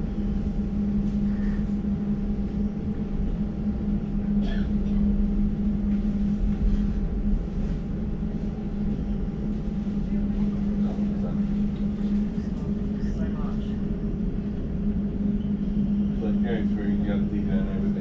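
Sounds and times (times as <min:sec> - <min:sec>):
train hum inside carriage: 0:00.0 - 0:18.0.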